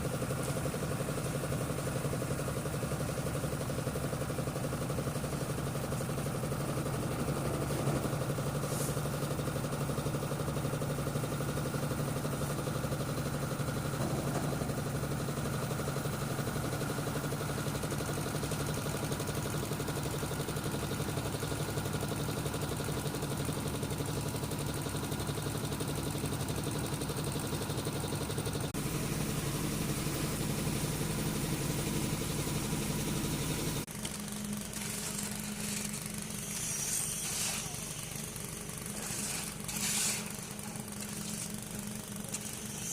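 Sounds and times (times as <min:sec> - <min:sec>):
construction machine engine running: 0:00.0 - 0:42.9.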